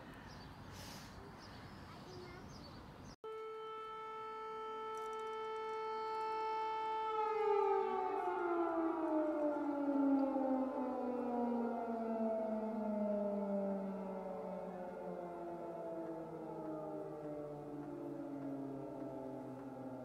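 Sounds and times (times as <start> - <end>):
faint outdoor ambience: 0.0 - 20.0
air-raid siren: 3.2 - 20.0.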